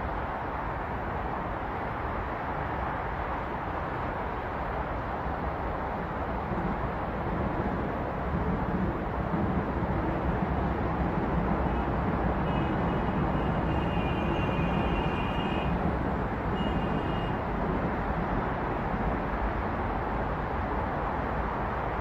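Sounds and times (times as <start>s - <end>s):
busy road traffic: 0.0s - 22.0s.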